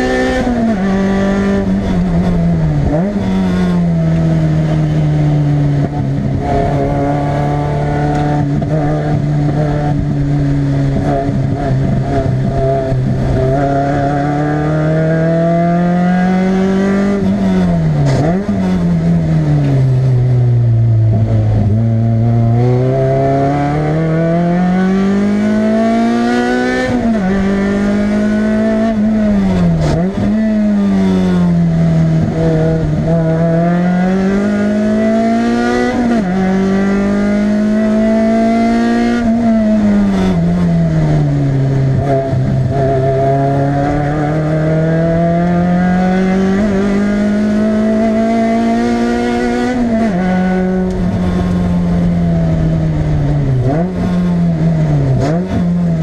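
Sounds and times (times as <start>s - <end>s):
car engine revving with gear changes: 0.0s - 56.0s.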